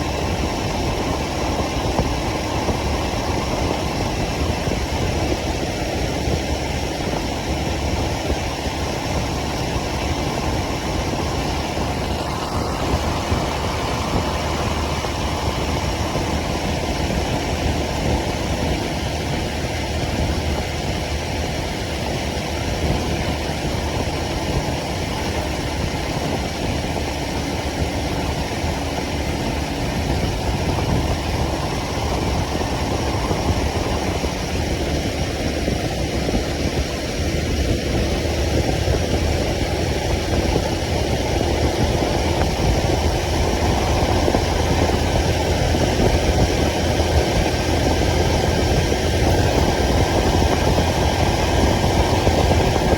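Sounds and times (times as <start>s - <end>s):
motorcycle engine running: 0.0s - 52.9s
road noise: 0.0s - 52.9s.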